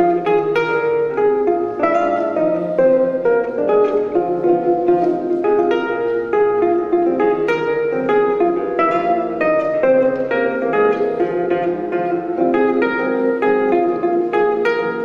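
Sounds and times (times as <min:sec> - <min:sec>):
solo jazz guitar: 0:00.0 - 0:15.0.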